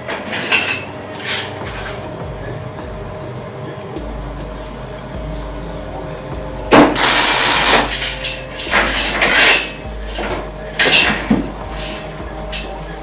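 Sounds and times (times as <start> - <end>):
welder arc crackling: 0.0 - 13.0.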